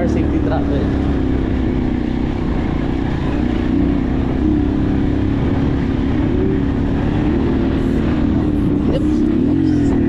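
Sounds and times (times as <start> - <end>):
motorcycle engine under load: 0.0 - 10.0
wind and road noise: 0.0 - 10.0.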